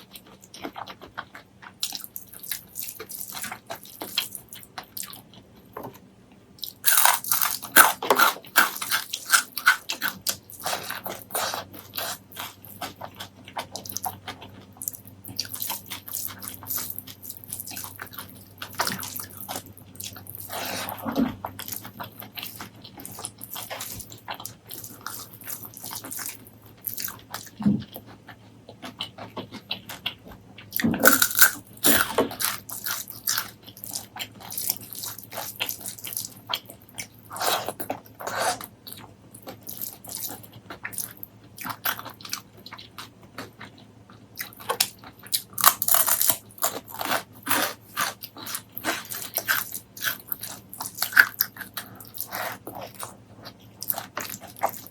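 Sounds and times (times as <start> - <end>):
chewing with crunching bites: 0.0 - 54.9.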